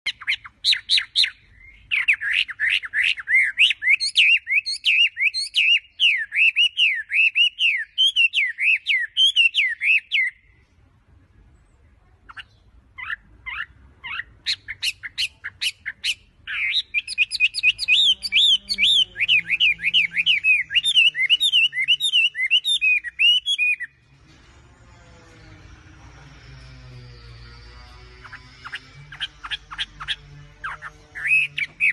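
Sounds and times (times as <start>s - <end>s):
songbird singing whistled notes: 0.1s - 10.6s, 12.3s - 24.0s, 28.1s - 31.9s.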